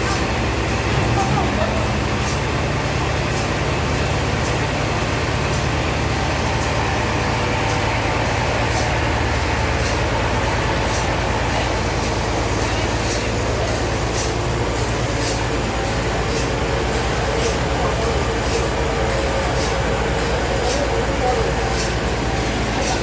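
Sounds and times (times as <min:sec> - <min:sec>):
sawmill machinery humming: 0:00.0 - 0:23.0.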